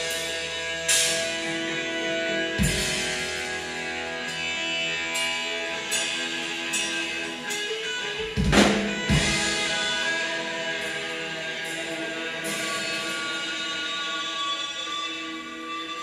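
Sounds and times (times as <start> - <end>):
drums keeping a steady beat: 0.0 - 16.0
electric guitar chords: 0.0 - 16.0.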